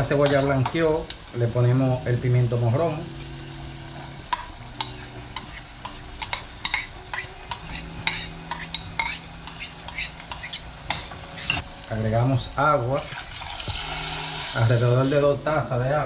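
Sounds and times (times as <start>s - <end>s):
pepper sizzling in oil: 0.0s - 15.7s.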